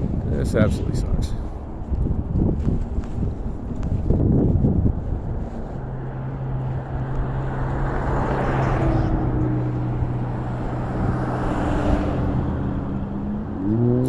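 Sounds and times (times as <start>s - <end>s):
cars passing by: 0.0s - 14.0s.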